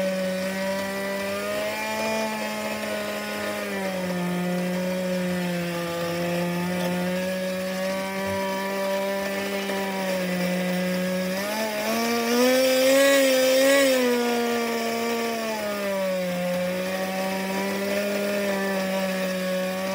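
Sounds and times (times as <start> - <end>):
small two-stroke engine running: 0.0 - 19.9.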